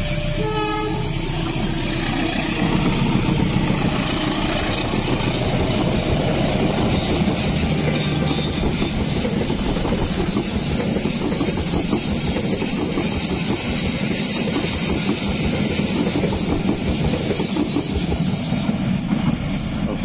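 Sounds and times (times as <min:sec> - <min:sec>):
train wheels rumbling on rails: 0:00.0 - 0:20.0
train wheels clattering: 0:01.4 - 0:20.0.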